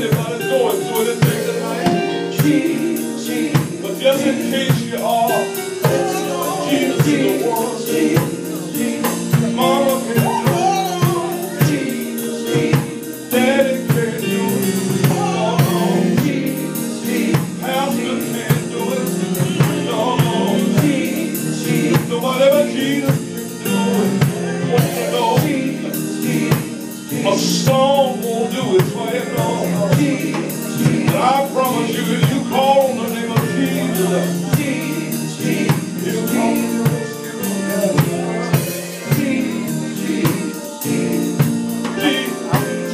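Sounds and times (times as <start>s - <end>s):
drums beating: 0.0s - 42.9s
gospel singing: 0.0s - 42.9s.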